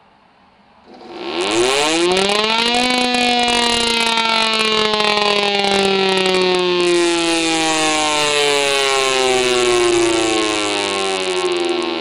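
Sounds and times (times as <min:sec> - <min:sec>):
siren tone falling in pitch: 0:01.4 - 0:12.0.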